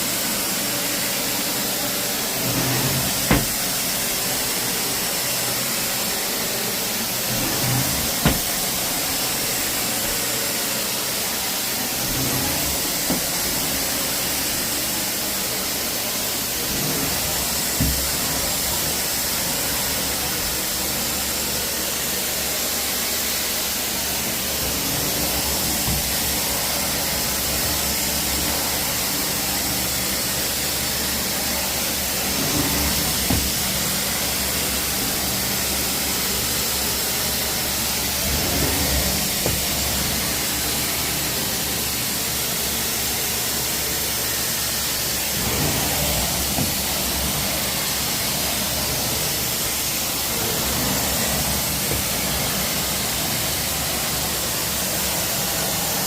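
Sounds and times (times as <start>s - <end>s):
carpet cleaning machine running: 0.0s - 56.0s.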